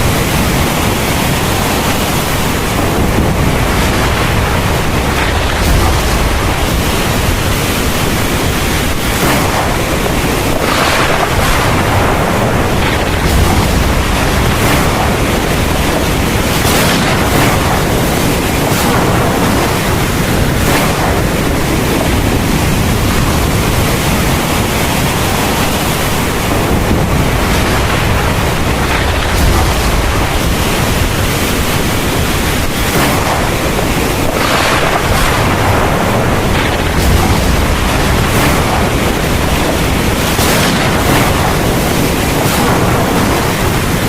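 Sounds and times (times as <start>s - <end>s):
heavy rain pouring: 0.0s - 44.0s
low thunder rumbling: 0.0s - 44.0s.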